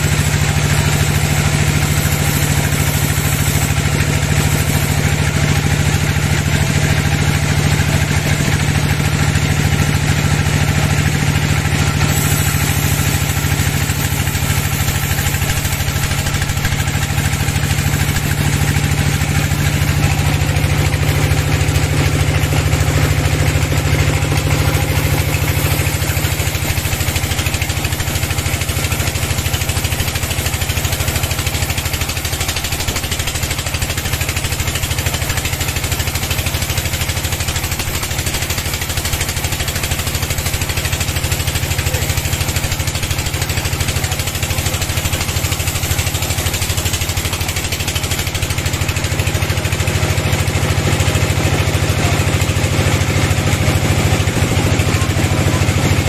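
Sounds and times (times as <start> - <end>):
saw blade hissing through wood: 0.0 - 6.2, 8.6 - 49.3
sawmill machine hum: 0.0 - 56.0.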